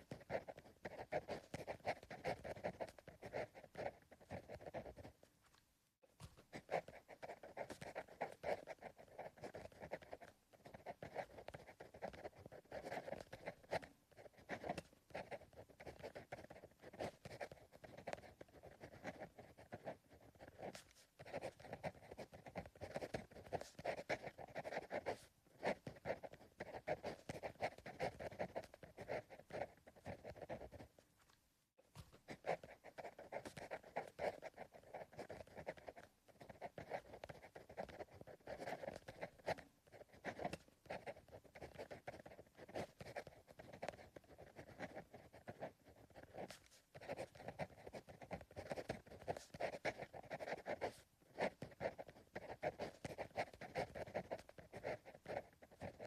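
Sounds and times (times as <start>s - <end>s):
pencil scratching on paper: 0.0s - 5.6s, 6.2s - 56.0s.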